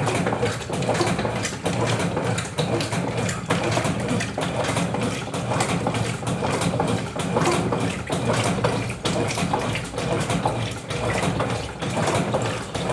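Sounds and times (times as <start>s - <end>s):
washing machine motor humming: 0.0s - 12.9s
water churning in tub: 0.0s - 12.9s.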